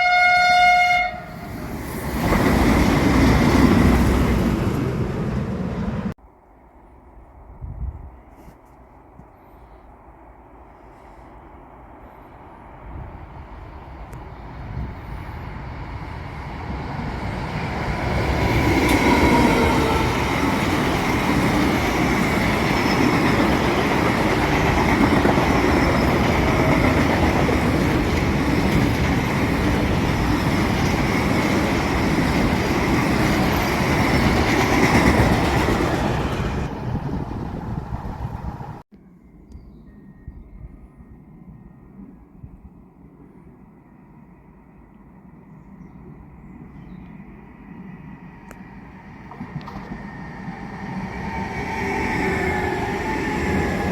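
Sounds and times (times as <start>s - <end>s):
freight train passing: 0.0s - 8.2s, 9.8s - 38.8s, 40.9s - 53.9s.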